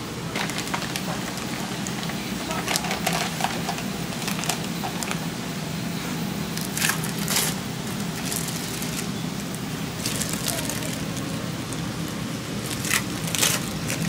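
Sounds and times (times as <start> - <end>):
plastic film peeling: 0.3 - 5.2, 6.5 - 14.0
plastic packaging crinkling: 0.3 - 5.3, 6.5 - 14.0.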